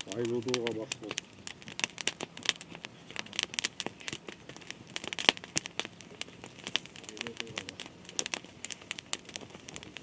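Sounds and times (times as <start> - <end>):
irregular crackling snaps: 0.0 - 10.0.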